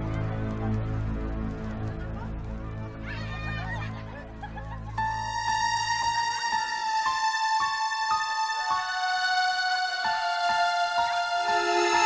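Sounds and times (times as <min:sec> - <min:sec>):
background music melody: 0:00.0 - 0:12.0.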